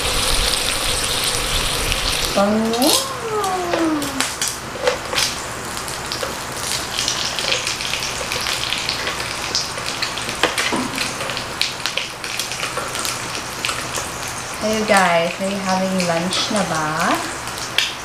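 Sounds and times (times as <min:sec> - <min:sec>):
beef sizzling and popping: 0:00.0 - 0:18.0.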